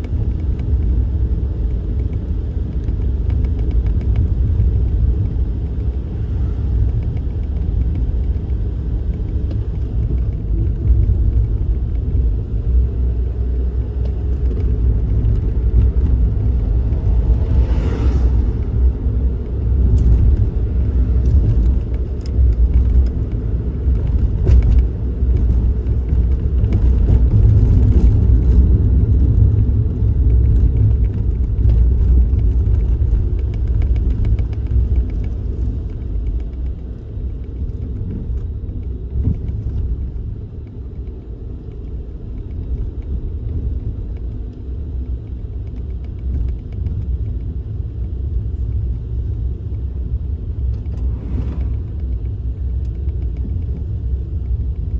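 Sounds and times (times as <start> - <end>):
car engine rumble: 0.0 - 54.9
road noise: 0.0 - 54.9.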